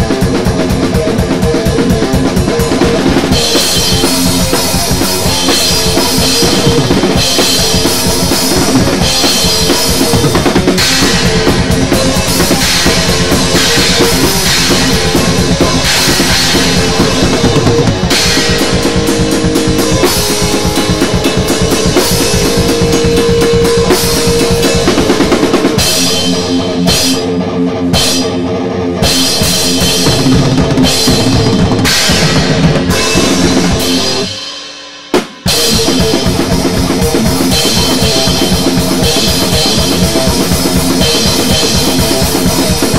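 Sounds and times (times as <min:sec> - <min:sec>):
electric guitar riffs: 0:00.0 - 0:34.4, 0:35.2 - 0:42.9
fast metal drumming: 0:00.0 - 0:42.9.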